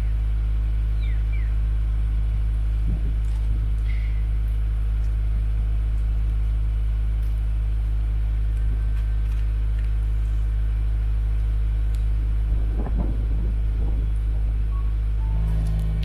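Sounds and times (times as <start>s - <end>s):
car engine idling exhaust drone: 0.0s - 16.0s.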